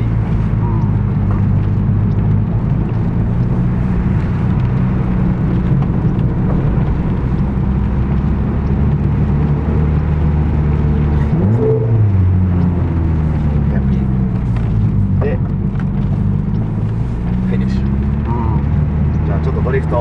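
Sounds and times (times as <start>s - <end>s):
car engine revving: 0.0s - 20.0s
road noise inside car: 0.0s - 20.0s.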